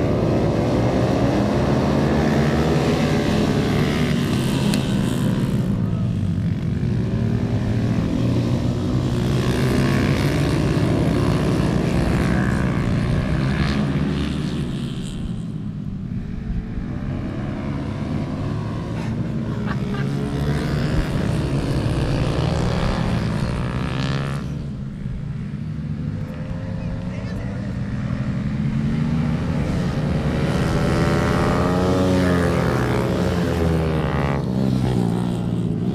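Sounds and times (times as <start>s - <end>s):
motorcycle engines revving: 0.0s - 35.9s.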